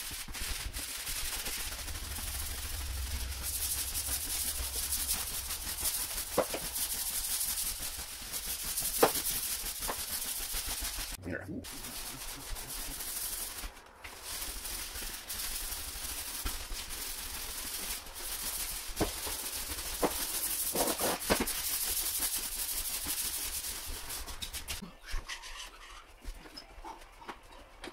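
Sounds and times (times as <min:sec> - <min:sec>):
broom sweeping wooden floor: 0:00.0 - 0:26.4.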